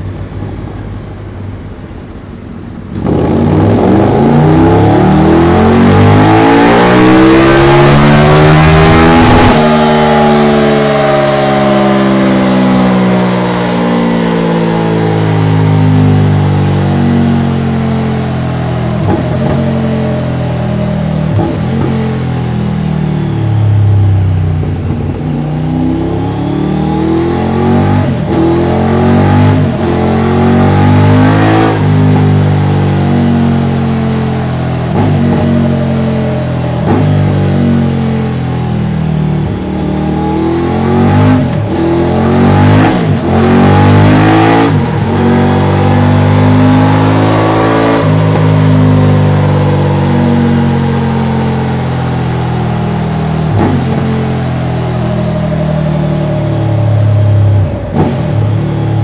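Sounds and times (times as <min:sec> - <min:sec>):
motorcycle engine revving: 0:02.9 - 0:59.0.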